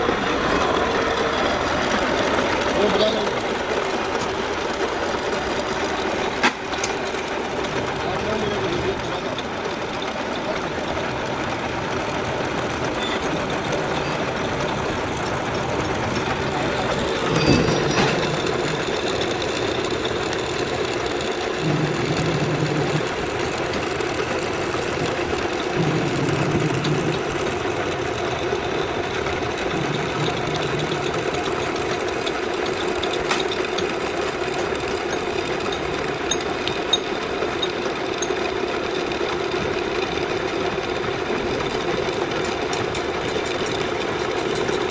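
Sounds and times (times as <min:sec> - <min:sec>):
lathe clatter: 0:00.0 - 0:44.9
lathe humming: 0:00.0 - 0:44.9.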